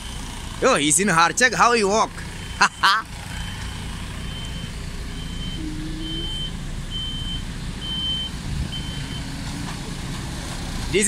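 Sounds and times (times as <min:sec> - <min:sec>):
truck reversing alarm beeping: 0:00.0 - 0:09.8.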